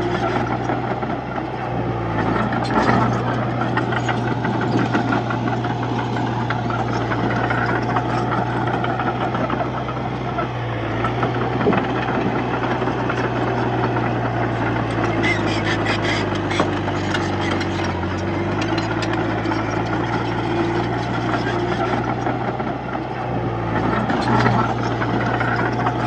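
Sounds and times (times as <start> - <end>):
bulldozer diesel engine clattering: 0.0 - 26.0.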